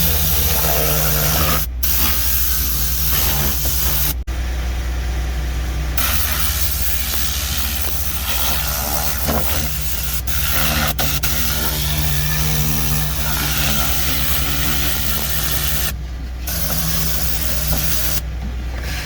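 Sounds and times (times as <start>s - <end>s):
compressed air gun hissing: 0.0s - 4.3s, 6.0s - 15.9s, 16.5s - 18.2s.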